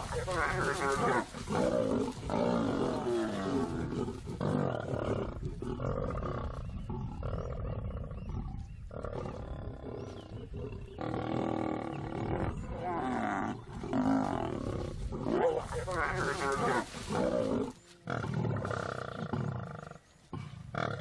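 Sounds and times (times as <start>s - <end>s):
lions growling and snarling: 0.0s - 21.0s.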